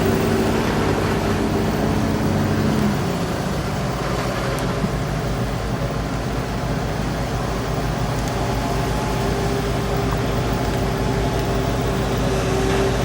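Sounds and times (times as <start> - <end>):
bulldozer diesel engine under load: 0.0 - 13.0.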